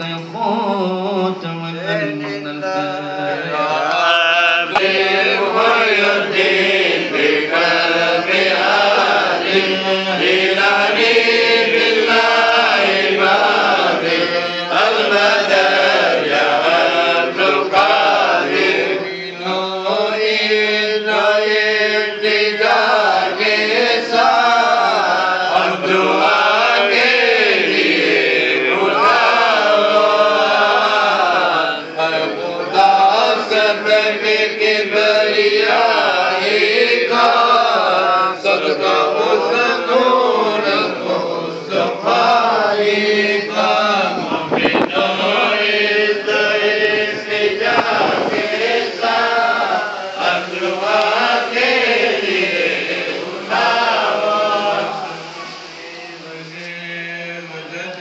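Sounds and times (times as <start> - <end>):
men chanting into microphone: 0.0 - 58.0.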